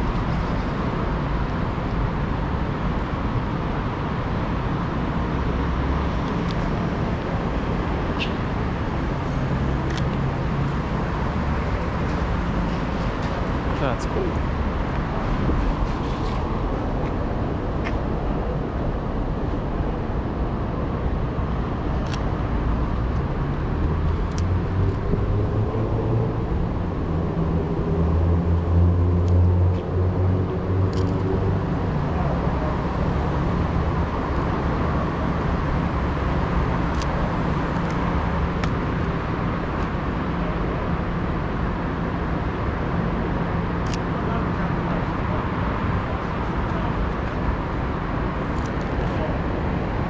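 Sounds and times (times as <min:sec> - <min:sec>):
road noise: 0:00.0 - 0:50.0.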